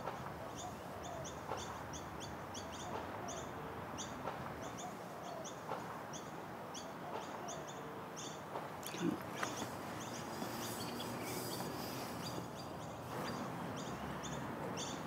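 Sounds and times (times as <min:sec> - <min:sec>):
small birds chirping: 0:00.0 - 0:15.0
steady outdoor hiss: 0:00.0 - 0:15.0.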